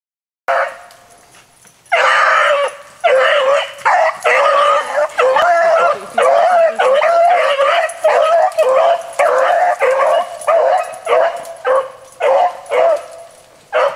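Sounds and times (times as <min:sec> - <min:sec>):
hounds baying: 0:00.5 - 0:01.2, 0:01.9 - 0:13.9.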